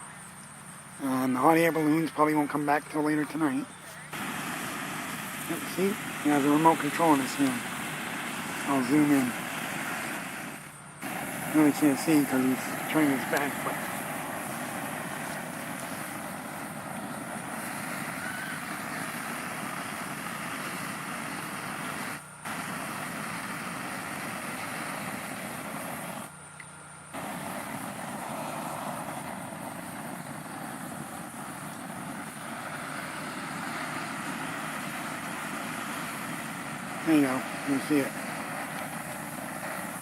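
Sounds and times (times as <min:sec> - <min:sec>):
rushing outdoor background noise: 0:00.0 - 0:40.0.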